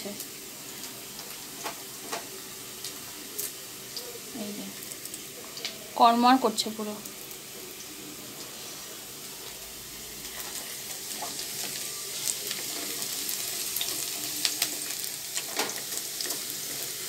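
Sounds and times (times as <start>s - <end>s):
onion sizzling in hot oil: 0.0s - 17.0s.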